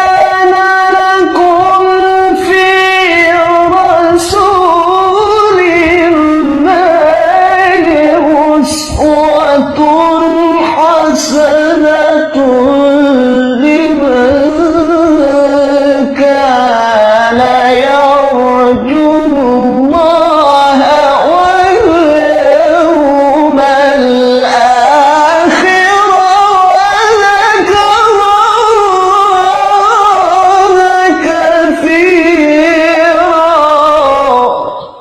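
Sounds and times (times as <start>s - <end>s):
solo voice in melodic recitation: 0.0s - 35.0s.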